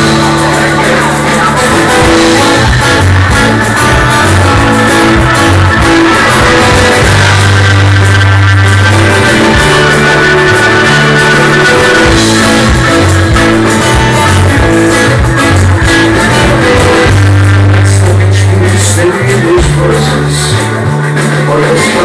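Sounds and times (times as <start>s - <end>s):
acoustic guitar: 0.0s - 22.0s
live rock band: 0.0s - 22.0s.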